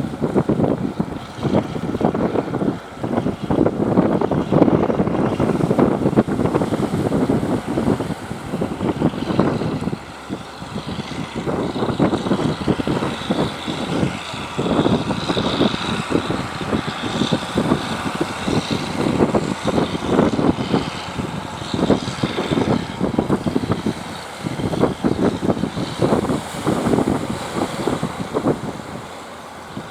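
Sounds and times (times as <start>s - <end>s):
boat engines running: 0.0s - 29.9s
wind buffeting microphone: 0.0s - 29.9s.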